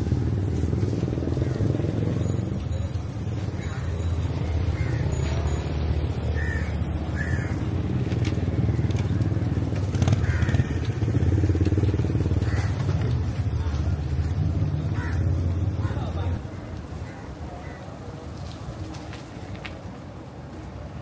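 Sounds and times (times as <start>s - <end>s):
passing traffic: 0.0s - 21.0s.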